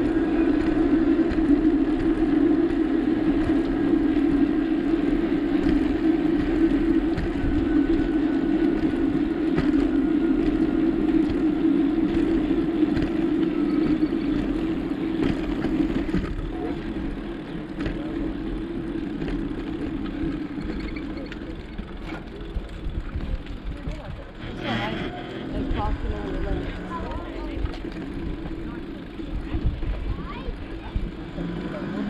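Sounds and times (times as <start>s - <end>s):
bicycle road noise hiss: 0.0s - 32.0s.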